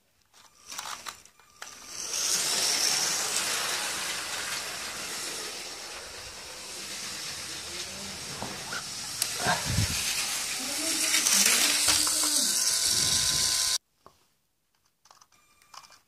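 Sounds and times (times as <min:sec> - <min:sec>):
toy train motor and wheels: 0:00.3 - 0:13.8.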